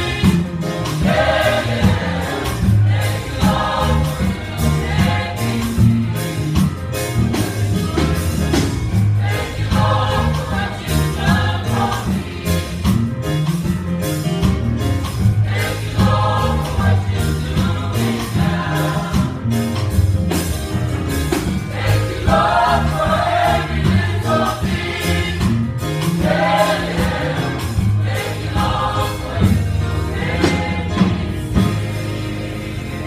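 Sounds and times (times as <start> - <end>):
choir singing gospel song: 0.0 - 13.7, 15.0 - 20.5, 21.1 - 33.0
instrumental backing with bass: 0.0 - 33.0.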